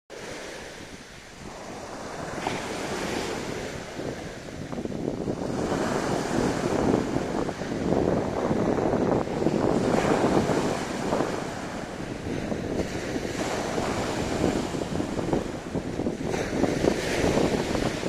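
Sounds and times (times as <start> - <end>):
waves breaking on shore: 0.1 - 18.0
wind buffeting microphone: 0.1 - 18.0.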